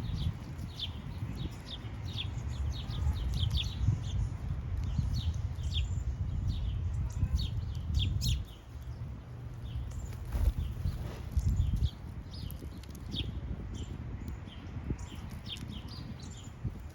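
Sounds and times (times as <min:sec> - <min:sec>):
small birds chirping: 0:00.0 - 0:16.9
steady low rumble: 0:00.0 - 0:16.9.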